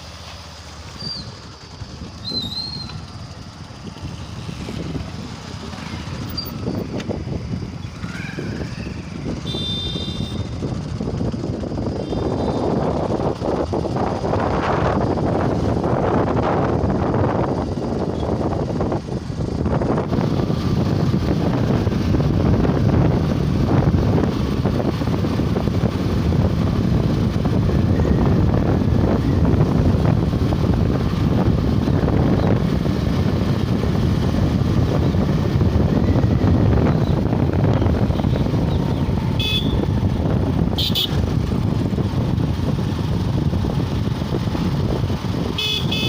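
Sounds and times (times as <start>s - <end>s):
motorcycle road and engine noise: 0.0s - 46.0s
wind buffeting microphone: 1.0s - 46.0s.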